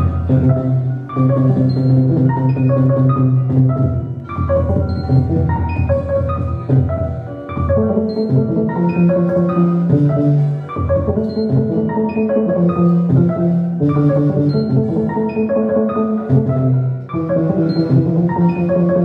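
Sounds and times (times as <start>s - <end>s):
electronic synthesizer music: 0.0s - 19.0s.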